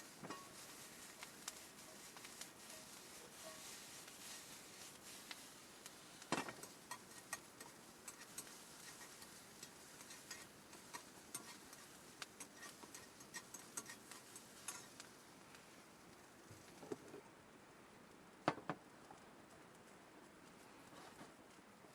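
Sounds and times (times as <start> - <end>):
campfire crackling and popping: 0.0 - 21.9
faint fire hiss: 0.0 - 21.9.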